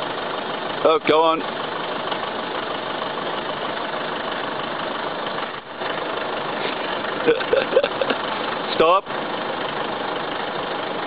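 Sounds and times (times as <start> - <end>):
diesel engine running at low revs: 0.0 - 11.0.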